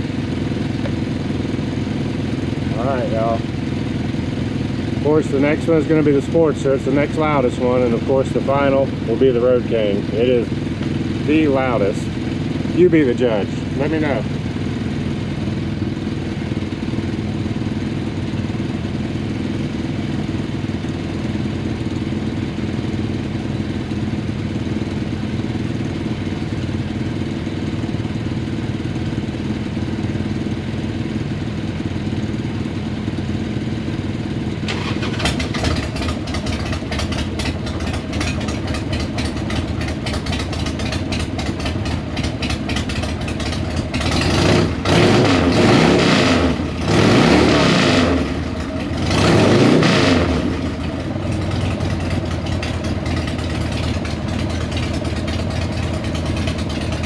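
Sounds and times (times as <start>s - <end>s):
motorcycle engines idling: 0.0s - 57.0s
v-twin motorcycle revving: 0.0s - 57.0s.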